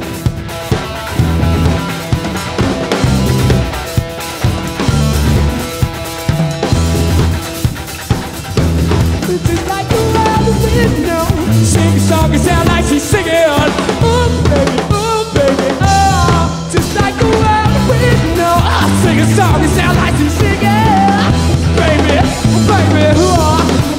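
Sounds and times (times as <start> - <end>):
bending electric guitar lead melody: 0.0 - 23.9
drum kit: 0.0 - 23.9
electric bass: 0.0 - 23.9.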